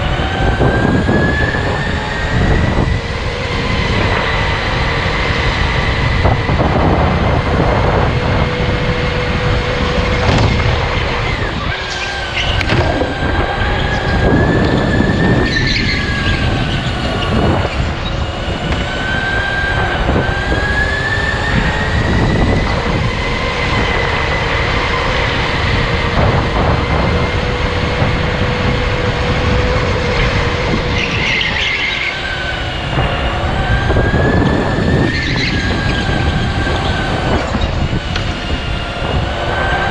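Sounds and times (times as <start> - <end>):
electric go-kart motor whining: 0.0 - 39.9
low rumble of kart on track: 0.0 - 39.9.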